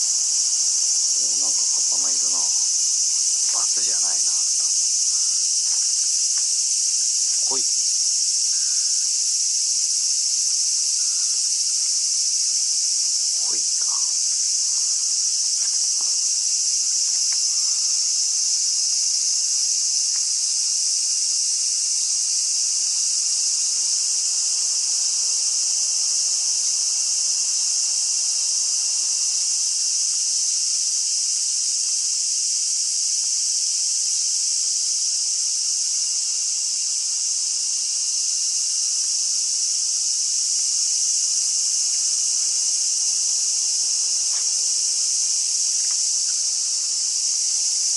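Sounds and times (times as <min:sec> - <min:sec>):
cicadas chorus: 0:00.0 - 0:47.9.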